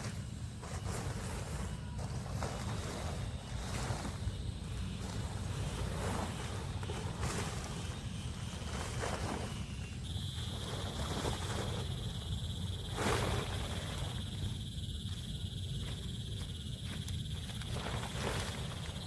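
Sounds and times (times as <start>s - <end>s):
insect trilling: 0.3s - 19.0s.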